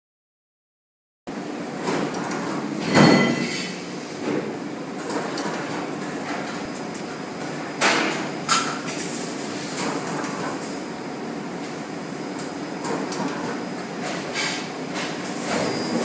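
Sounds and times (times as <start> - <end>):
steady machine hum: 1.3 - 16.0.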